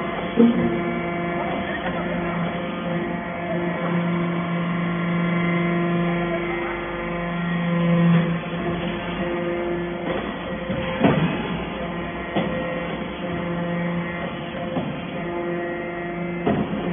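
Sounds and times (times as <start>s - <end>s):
hydraulic press humming: 0.0s - 16.9s.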